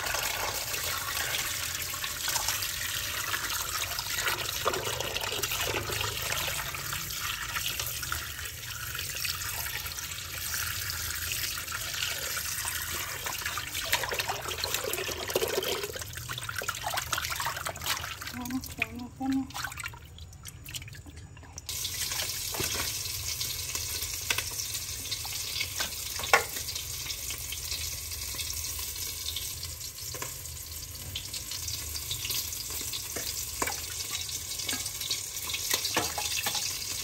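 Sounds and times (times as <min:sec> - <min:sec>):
tap pouring into metal basin: 0:00.0 - 0:18.3, 0:20.7 - 0:28.5, 0:32.1 - 0:37.0.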